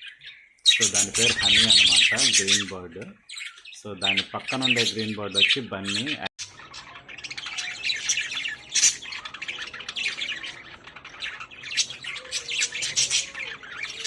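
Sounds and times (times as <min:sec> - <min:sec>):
birds chirping and squawking: 0:00.0 - 0:14.0.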